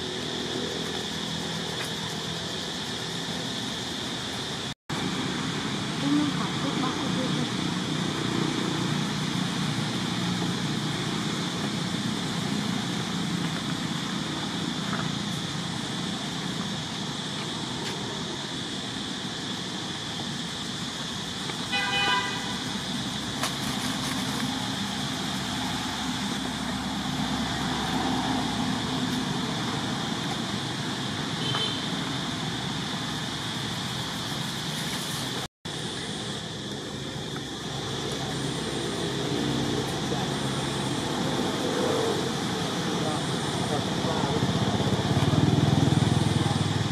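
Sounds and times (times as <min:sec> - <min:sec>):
outdoor background noise: 0:00.0 - 0:46.9.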